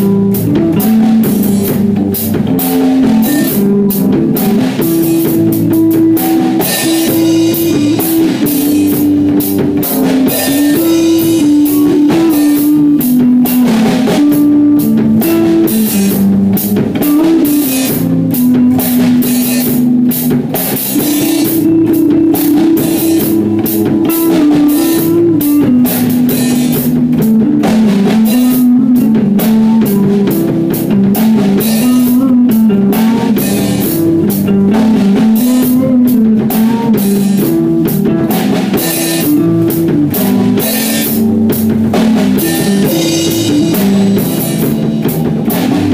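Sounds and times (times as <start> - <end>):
drum kit with cymbals: 0.0 - 45.9
electric bass: 0.0 - 45.9
electric guitar: 0.0 - 45.9.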